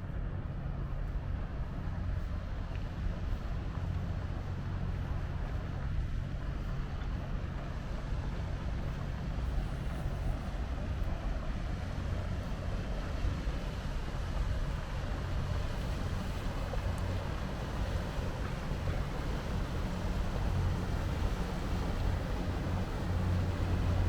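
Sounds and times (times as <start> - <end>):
waterfront low rumble: 0.0 - 24.0.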